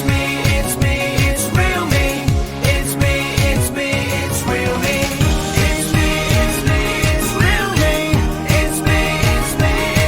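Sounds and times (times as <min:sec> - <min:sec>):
pop music with kick drum beat: 0:00.0 - 0:10.0.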